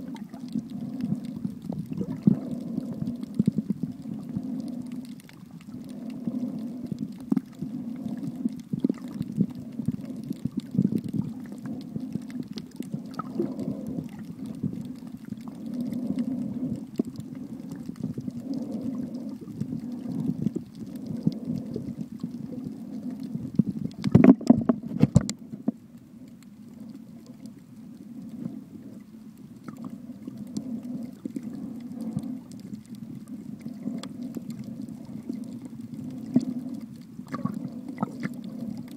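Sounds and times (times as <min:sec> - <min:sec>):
underwater clicks: 0:00.0 - 0:38.9
underwater rumble of moving water: 0:00.0 - 0:38.9.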